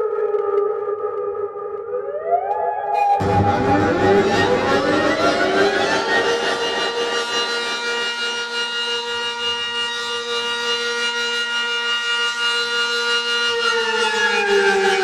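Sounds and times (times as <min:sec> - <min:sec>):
siren holding steady pitch: 0:01.0 - 0:15.0.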